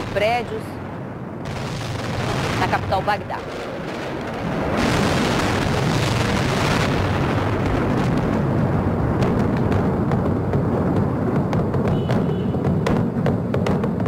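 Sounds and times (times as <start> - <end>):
explosions rumbling roar: 0.0 - 14.0
sharp cracks: 1.4 - 14.0.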